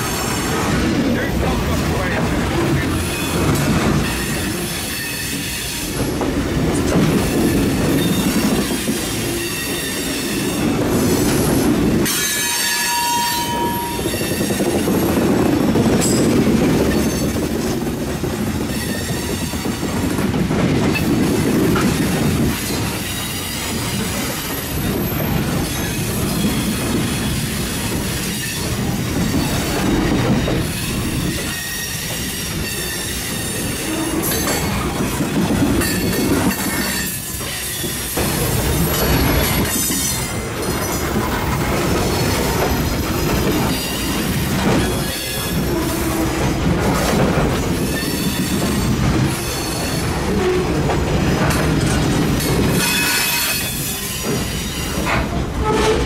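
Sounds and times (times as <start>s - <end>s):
clickety-clack over rail joints: 0.0s - 56.0s
train wheels rumbling on rail: 0.0s - 56.0s.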